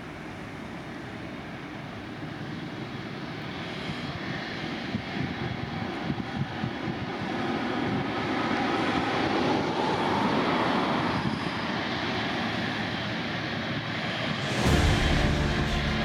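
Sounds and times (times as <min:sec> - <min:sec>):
aircraft engines rushing: 0:00.0 - 0:16.0.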